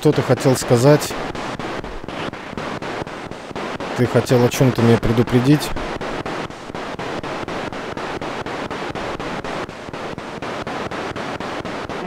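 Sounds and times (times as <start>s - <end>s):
radio static sweeping stations: 0.0s - 12.0s.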